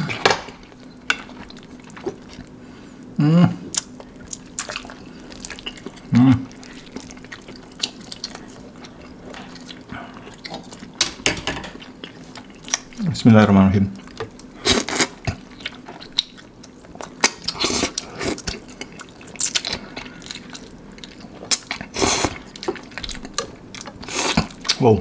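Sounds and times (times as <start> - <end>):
people slurping and chewing noodles: 0.0 - 11.0, 14.0 - 25.0.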